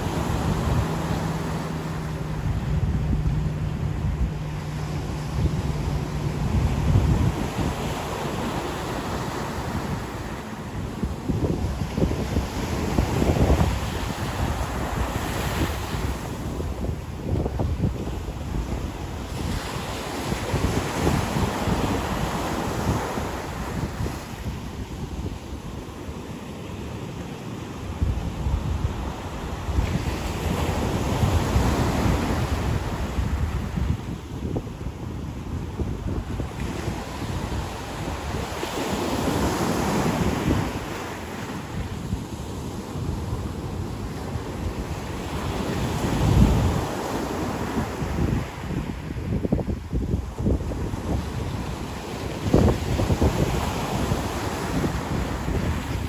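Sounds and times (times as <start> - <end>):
ocean surf breaking on beach: 0.0 - 56.0
wind buffeting microphone: 0.0 - 56.0.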